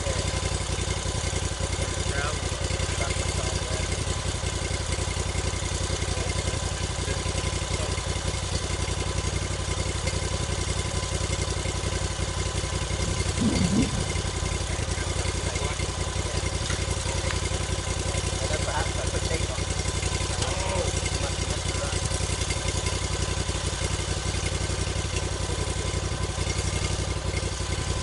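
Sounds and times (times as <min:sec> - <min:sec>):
sawmill engine idling: 0:00.0 - 0:28.0.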